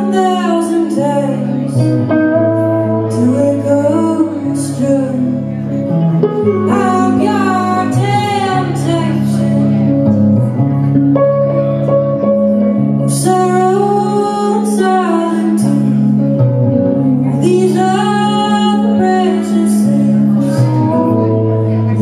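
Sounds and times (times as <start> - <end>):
woman singing folk-country song: 0.0 - 2.1, 2.7 - 5.8, 6.6 - 10.1, 13.0 - 22.0
electric guitar chords: 0.0 - 22.0.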